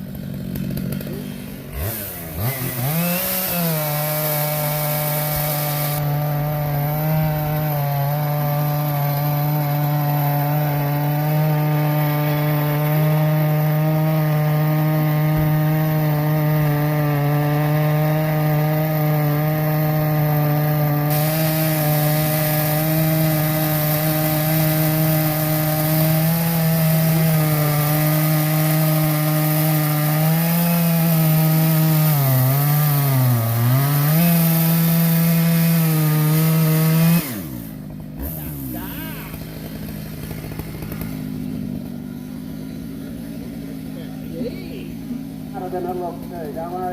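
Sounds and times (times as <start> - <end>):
chainsaw cutting timber: 0.0 - 46.9.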